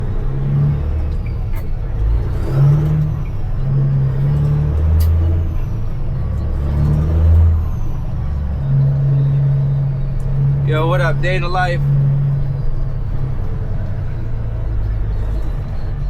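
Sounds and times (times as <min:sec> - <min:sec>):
dump truck diesel engine running: 0:00.0 - 0:16.0.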